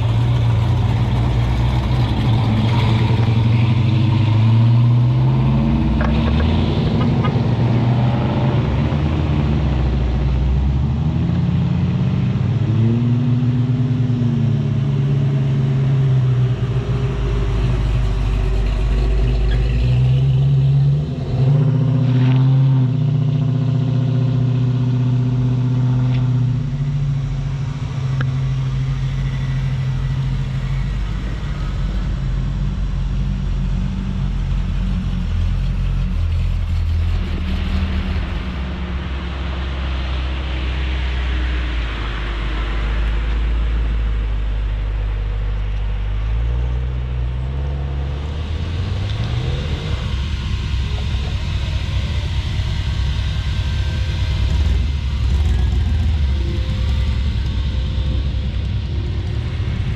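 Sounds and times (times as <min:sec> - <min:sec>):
car engines rumbling: 0:00.0 - 0:59.9.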